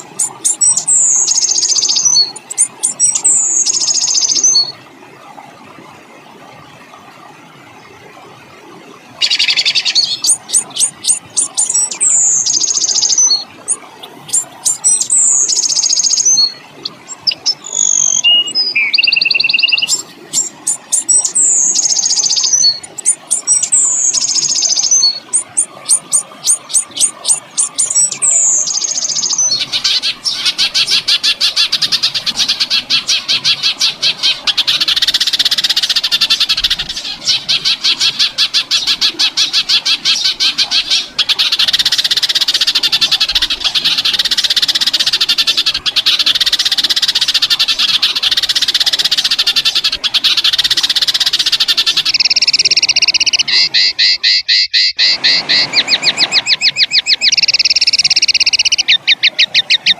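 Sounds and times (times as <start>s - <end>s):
songbird singing: 0.0s - 4.8s, 9.2s - 59.9s.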